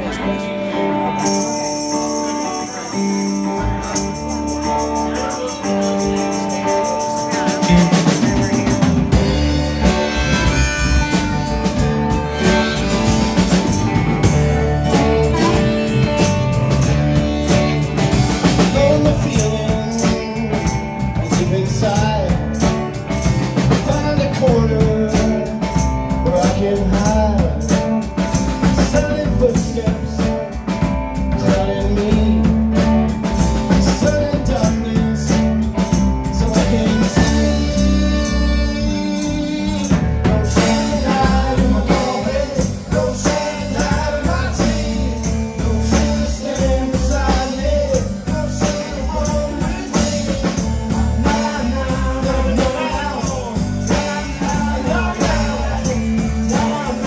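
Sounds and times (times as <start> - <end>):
male lead vocals: 0.0 - 57.0
rock band playing: 0.0 - 57.0.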